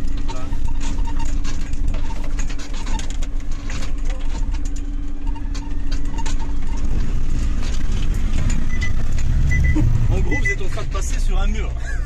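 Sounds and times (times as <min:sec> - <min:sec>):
cab rattling and knocking: 0:00.0 - 0:12.0
truck diesel engine running: 0:00.0 - 0:12.0.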